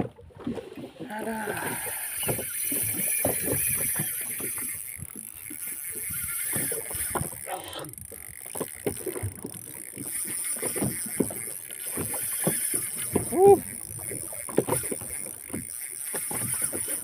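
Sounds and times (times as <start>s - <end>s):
wind and water hiss: 0.8s - 17.0s.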